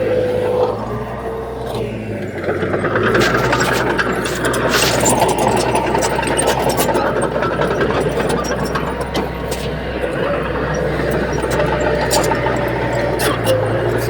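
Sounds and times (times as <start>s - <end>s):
heavy diesel engine running: 0.0s - 14.0s
short clicks and rattles: 1.7s - 14.0s.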